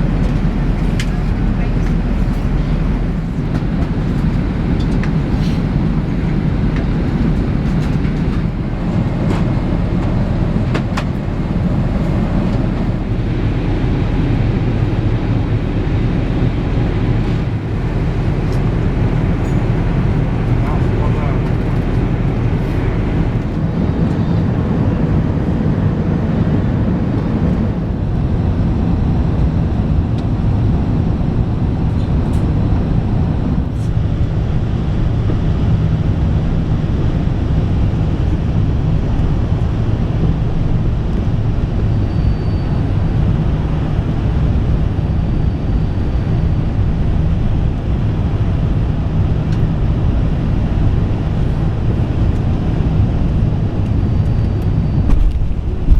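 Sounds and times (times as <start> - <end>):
airplane cabin engine rumble: 0.0 - 55.9.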